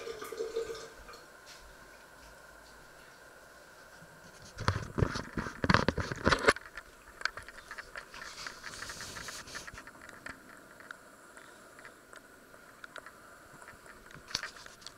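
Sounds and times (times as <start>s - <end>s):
soft hiss: 0.0s - 5.7s, 6.6s - 14.9s.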